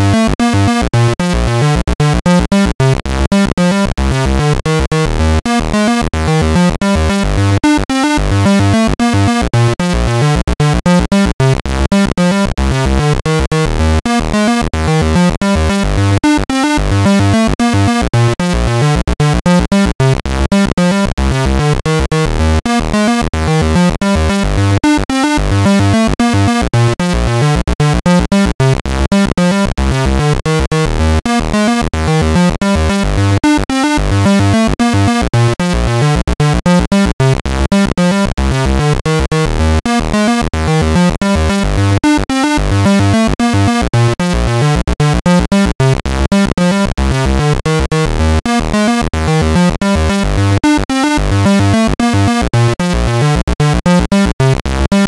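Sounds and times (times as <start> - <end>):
chiptune music: 0.0 - 55.0.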